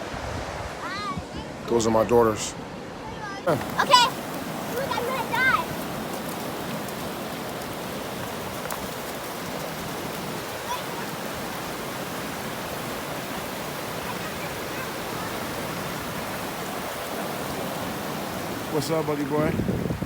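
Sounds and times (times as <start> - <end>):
ocean surf: 0.0 - 20.0
wind: 0.0 - 20.0.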